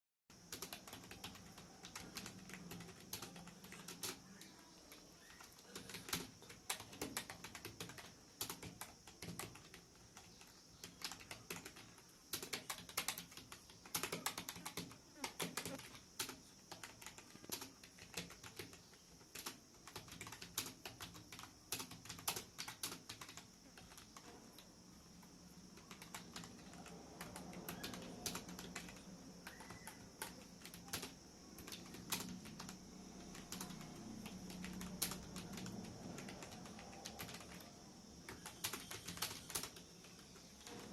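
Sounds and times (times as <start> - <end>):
faint steady hum: 0.3 - 40.9
keyboard typing clicks: 0.5 - 40.9.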